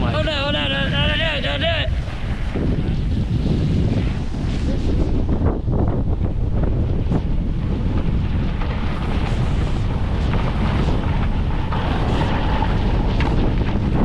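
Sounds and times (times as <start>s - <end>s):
snowboard scraping over snow: 0.0s - 14.0s
wind buffeting microphone: 0.0s - 14.0s.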